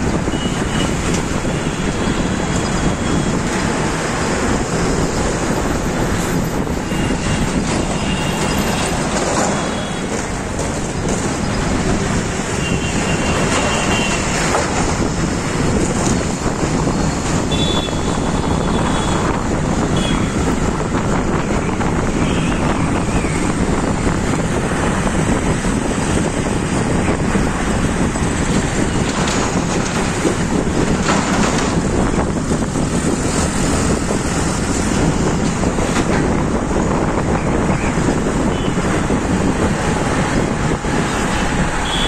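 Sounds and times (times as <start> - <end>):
road traffic: 0.0 - 42.0
wind rushing over microphone: 0.0 - 42.0.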